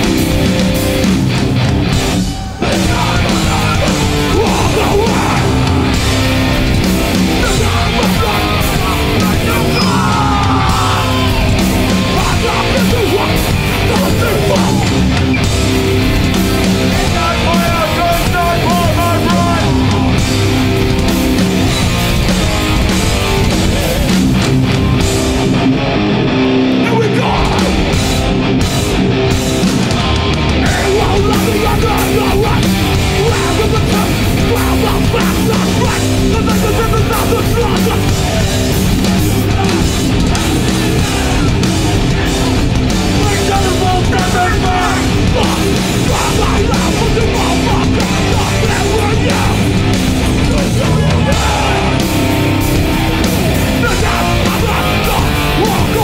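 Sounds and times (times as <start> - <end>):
live metal band playing: 0.0 - 56.0.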